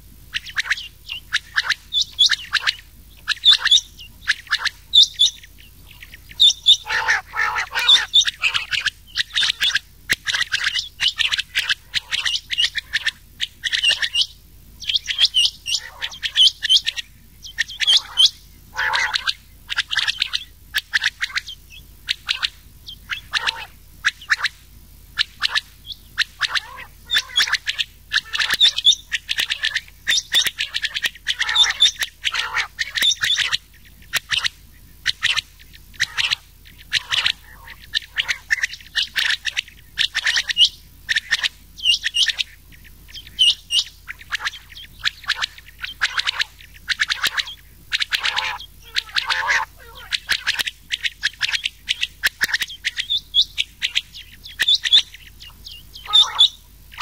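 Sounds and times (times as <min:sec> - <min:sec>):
quail calling: 0:00.0 - 0:57.0.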